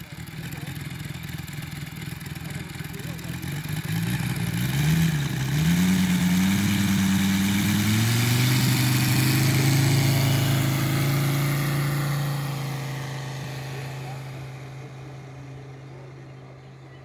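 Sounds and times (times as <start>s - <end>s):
model plane engine at full throttle: 0.0s - 17.0s.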